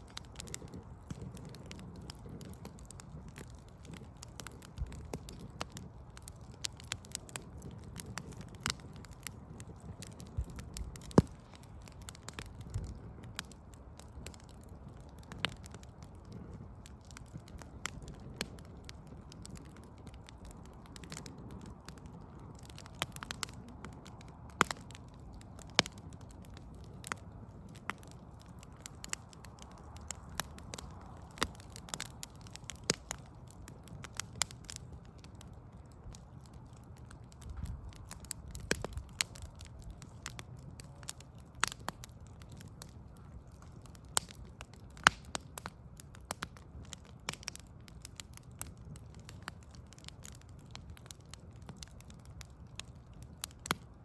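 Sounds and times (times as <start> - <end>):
low rumble of flame: 0.0 - 54.0
wood fire crackling: 0.0 - 54.0.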